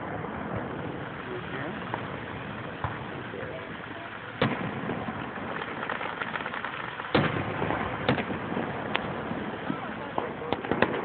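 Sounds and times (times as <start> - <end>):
faint firework crackling: 0.0 - 11.0
fireworks bangs: 0.0 - 11.0.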